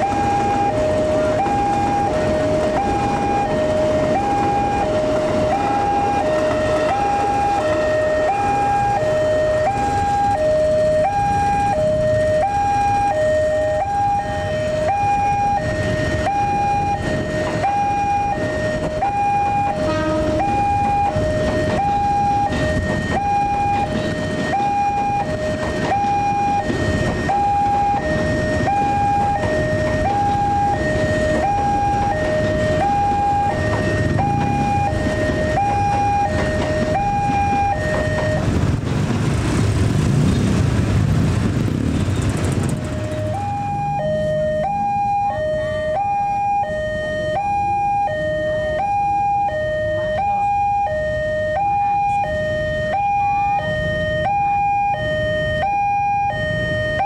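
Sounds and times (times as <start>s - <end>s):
two-tone crossing alarm: 0.0s - 38.7s, 42.2s - 57.0s.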